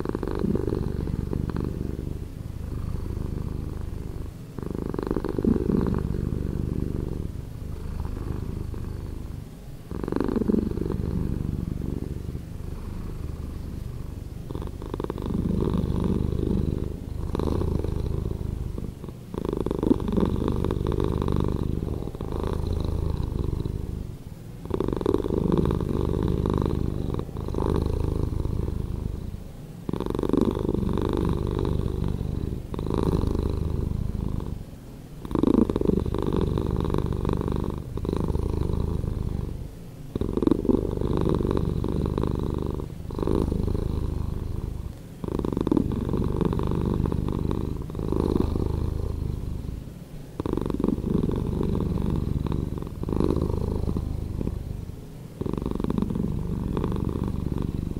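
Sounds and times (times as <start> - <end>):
cat purring: 0.0 - 57.9.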